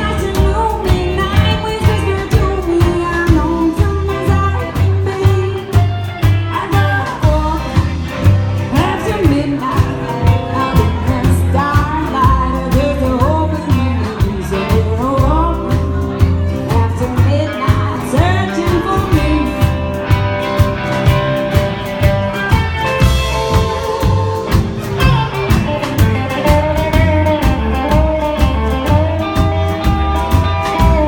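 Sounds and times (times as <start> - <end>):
woman singing: 0.0 - 19.9, 23.0 - 25.2, 26.4 - 31.0
acoustic and electric guitar: 0.0 - 31.0
drum kit: 0.0 - 31.0
plucked upright bass: 0.0 - 31.0.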